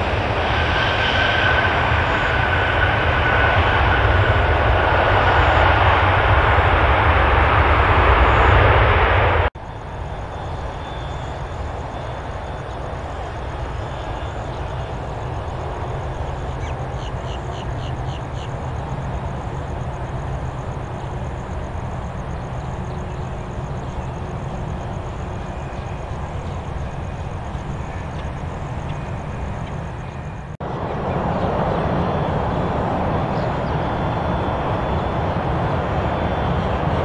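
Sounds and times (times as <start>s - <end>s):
jet engine noise: 0.0s - 37.0s.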